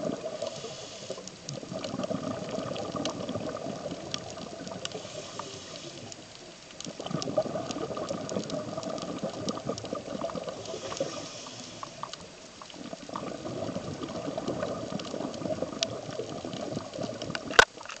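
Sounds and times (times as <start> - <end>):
underwater regulator bubbling: 0.0 - 17.6.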